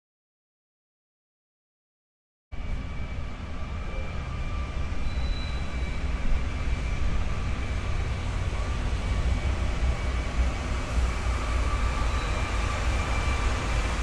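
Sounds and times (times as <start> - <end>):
diesel locomotives rumbling: 2.6 - 14.0
faint high whine: 2.6 - 14.0.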